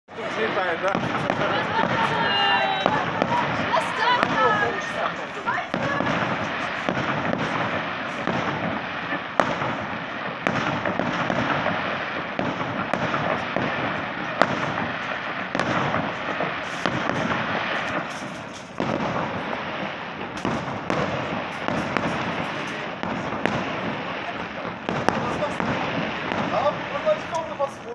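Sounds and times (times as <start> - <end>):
fireworks popping and crackling: 0.1 - 27.9
sharp firework bangs: 0.1 - 27.9.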